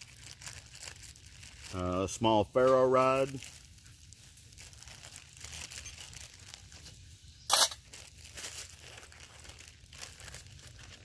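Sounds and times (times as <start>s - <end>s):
loud plastic crackle: 0.0s - 11.0s
plastic bag crinkling: 0.0s - 11.0s.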